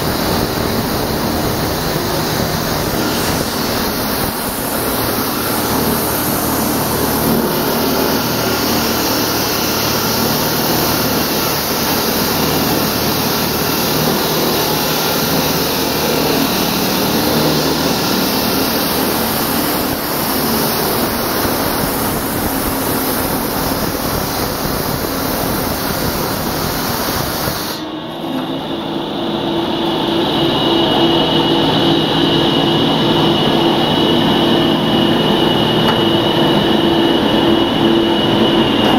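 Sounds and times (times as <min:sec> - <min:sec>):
diamond concrete cutting machine: 0:00.0 - 0:38.9
machine with high whine: 0:00.0 - 0:38.9.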